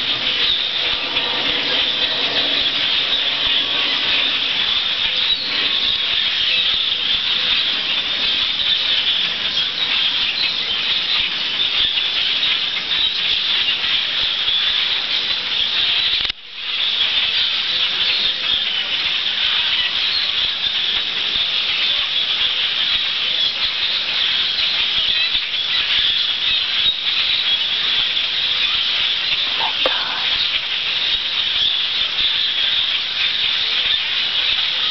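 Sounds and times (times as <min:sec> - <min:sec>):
bird flock chattering: 0:00.0 - 0:34.9.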